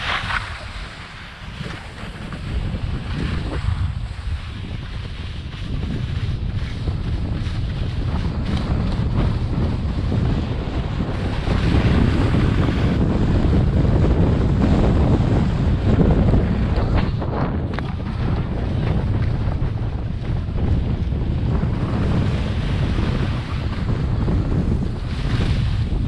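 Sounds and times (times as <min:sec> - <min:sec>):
skis scraping on packed snow: 0:00.0 - 0:26.0
wind buffeting microphone: 0:00.0 - 0:26.0.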